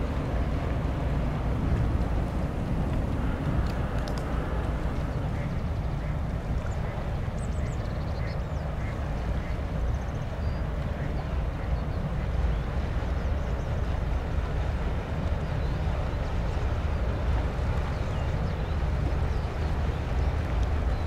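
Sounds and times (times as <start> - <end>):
boat engines rumbling: 0.0 - 21.0.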